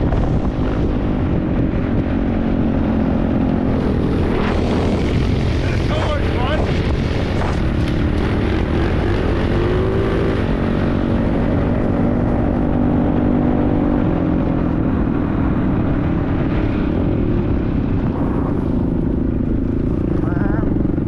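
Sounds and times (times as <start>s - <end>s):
small motorbike engine running: 0.0s - 12.5s, 16.1s - 21.0s.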